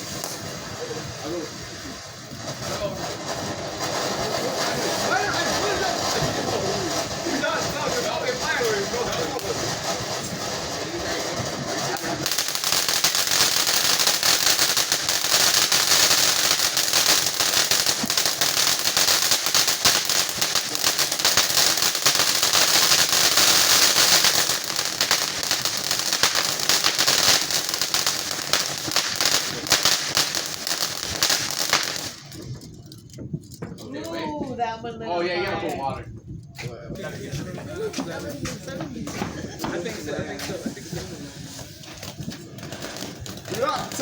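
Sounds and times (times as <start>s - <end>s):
firework crackling: 0.0s - 44.0s.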